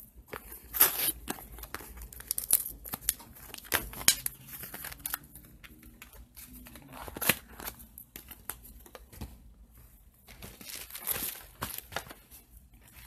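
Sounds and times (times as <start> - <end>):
packaging crinkling and tearing: 0.3 - 9.0, 10.4 - 13.0.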